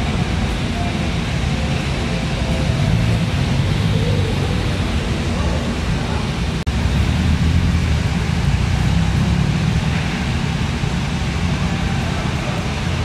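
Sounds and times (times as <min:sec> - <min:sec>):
car engine rumbling past: 0:01.4 - 0:13.0.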